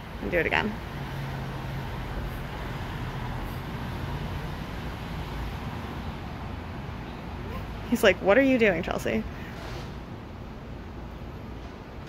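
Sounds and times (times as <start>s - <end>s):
street traffic noise: 0.0s - 12.0s
vehicle engine hum: 0.0s - 12.0s.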